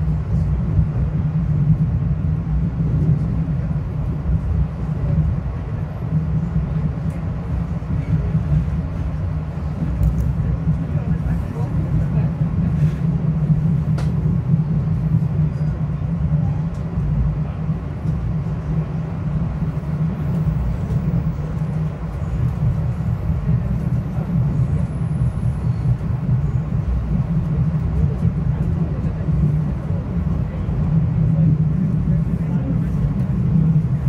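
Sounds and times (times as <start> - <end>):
train rumble and hum: 0.0 - 34.0.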